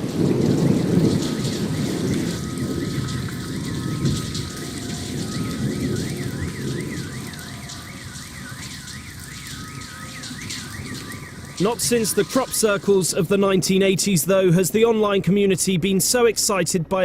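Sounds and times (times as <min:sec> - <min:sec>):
warbling siren tone: 0:00.0 - 0:14.7.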